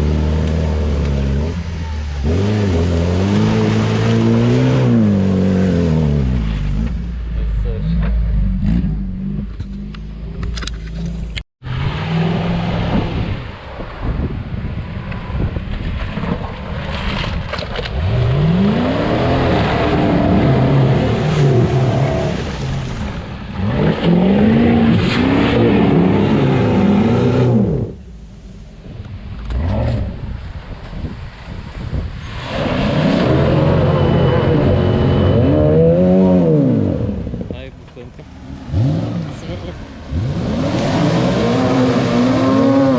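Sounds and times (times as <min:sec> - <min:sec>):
off-road vehicle engine revving: 0:00.0 - 0:13.6, 0:17.8 - 0:28.0, 0:29.4 - 0:30.4, 0:32.3 - 0:42.9.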